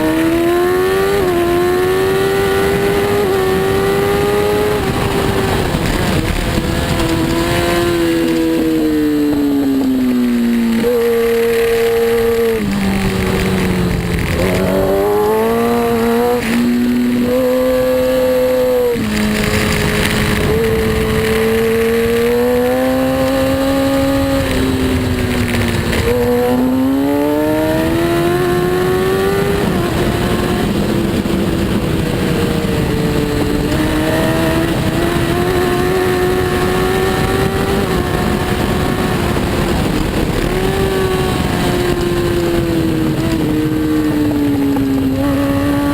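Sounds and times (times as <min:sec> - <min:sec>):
constant rushing noise: 0:00.0 - 0:45.9
motorcycle engine revving: 0:00.0 - 0:45.9.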